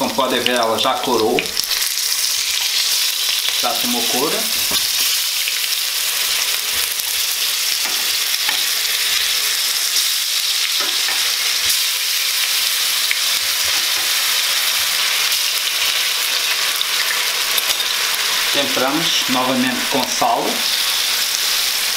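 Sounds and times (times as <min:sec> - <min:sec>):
potatoes sizzling in oil: 0:00.0 - 0:21.9.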